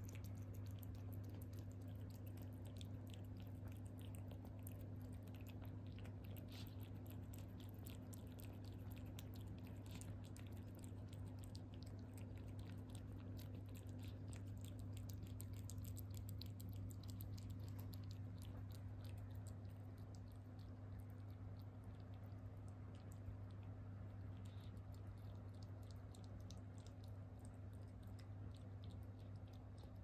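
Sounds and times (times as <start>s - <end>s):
cat chewing wet food: 0.0s - 30.0s
steady low hum: 0.0s - 30.0s.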